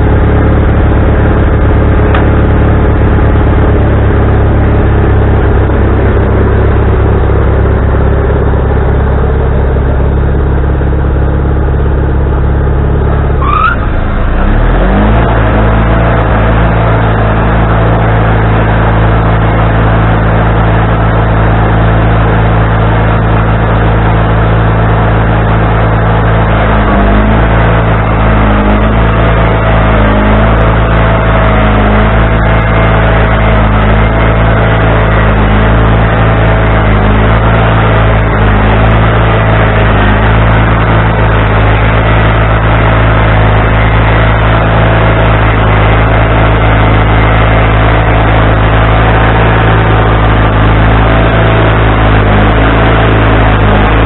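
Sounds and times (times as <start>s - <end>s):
sawmill engine revving: 0.0s - 54.0s.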